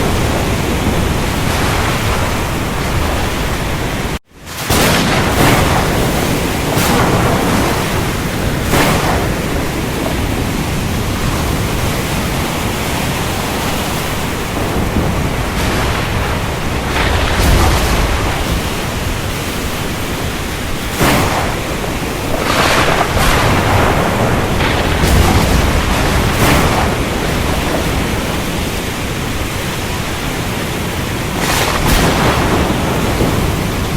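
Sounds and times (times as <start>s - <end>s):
heavy rain: 0.0s - 33.9s
thunder rumble: 0.0s - 33.9s.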